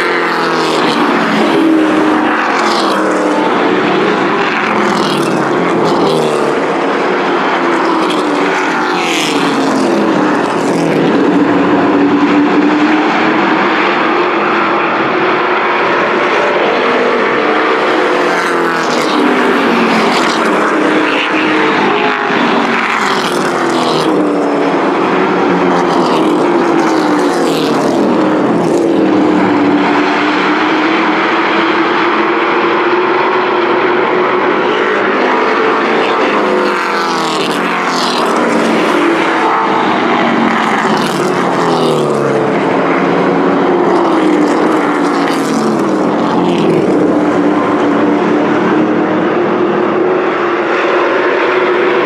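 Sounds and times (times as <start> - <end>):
race truck engines: 0.0 - 52.0.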